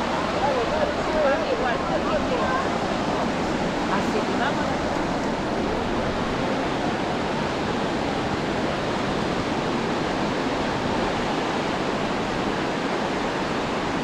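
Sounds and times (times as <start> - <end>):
surf rushing: 0.0 - 14.0
wind: 0.0 - 14.0.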